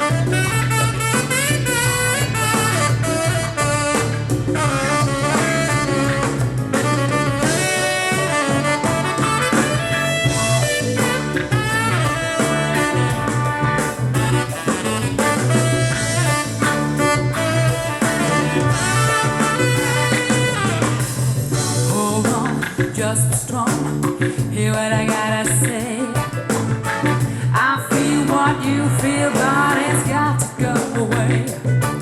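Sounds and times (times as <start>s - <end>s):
pop music with brass and bass: 0.0s - 32.0s.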